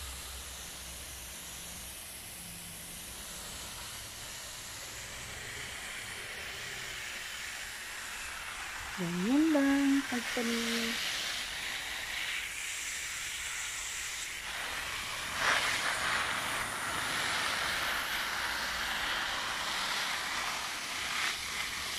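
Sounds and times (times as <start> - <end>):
water spray hissing on leaves: 0.0 - 21.9.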